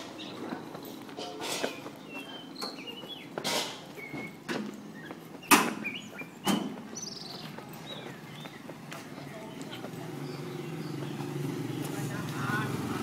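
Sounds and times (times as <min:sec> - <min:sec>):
footsteps on pavement: 0:00.0 - 0:13.0.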